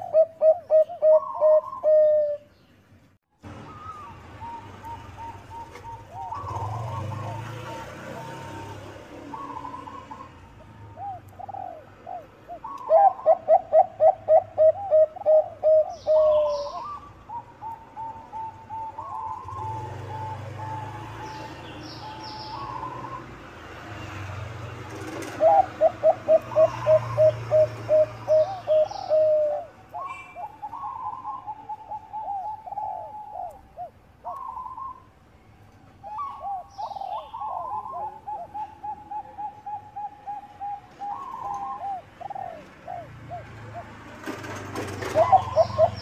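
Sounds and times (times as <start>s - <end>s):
doves cooing: 0.0s - 2.5s, 3.6s - 23.4s, 24.8s - 35.1s, 36.0s - 46.0s
small birds chirping: 0.0s - 44.2s, 44.8s - 46.0s.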